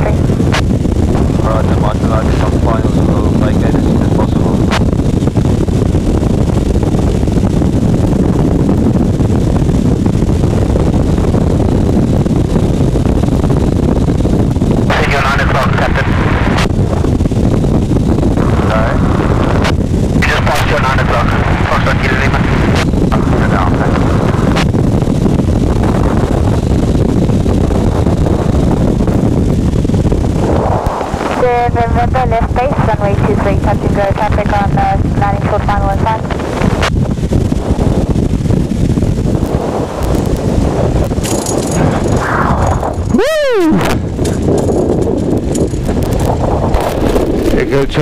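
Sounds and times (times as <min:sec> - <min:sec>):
light aircraft engine rumble: 0:00.0 - 0:48.0
wind buffeting microphone: 0:00.0 - 0:48.0.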